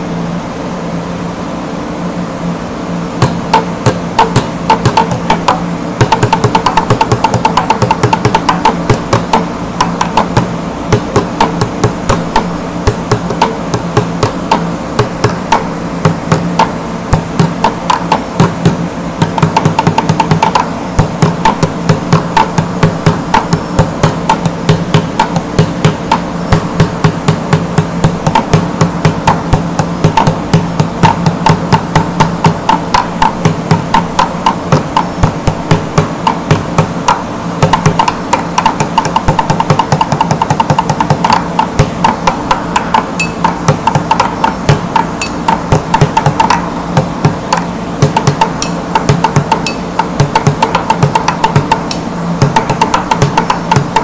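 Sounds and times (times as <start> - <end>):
plastic bucket drumming: 3.2 - 54.0.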